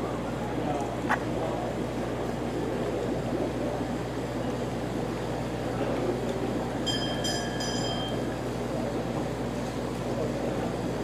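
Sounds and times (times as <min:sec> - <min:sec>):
low outdoor rumble and murmur: 0:00.0 - 0:11.0.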